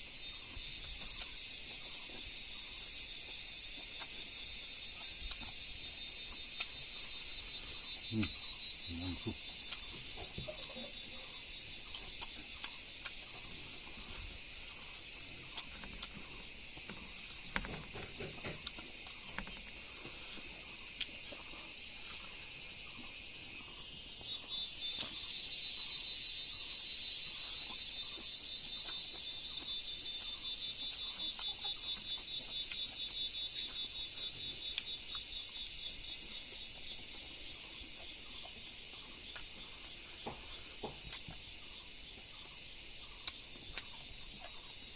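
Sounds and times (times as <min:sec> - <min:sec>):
crickets and insects chirping: 0:00.0 - 0:44.9.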